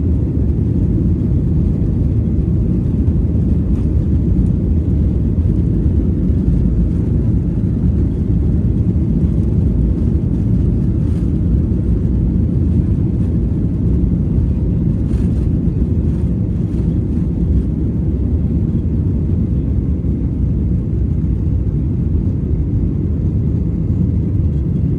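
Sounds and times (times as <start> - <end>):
airliner engines rumbling in cabin: 0.0 - 24.9.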